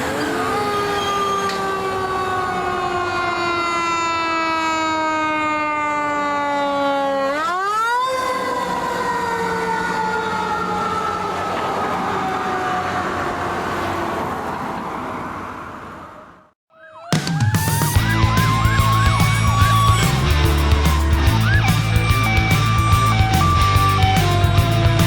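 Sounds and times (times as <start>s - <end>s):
fire engine siren winding: 0.0s - 13.4s, 17.2s - 25.0s.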